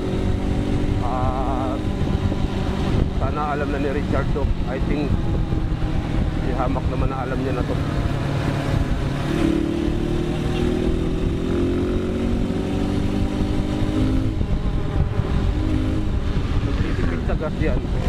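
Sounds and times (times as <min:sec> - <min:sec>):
dirt bike engine running: 0:00.0 - 0:18.0
wind rumble on microphone: 0:00.0 - 0:18.0.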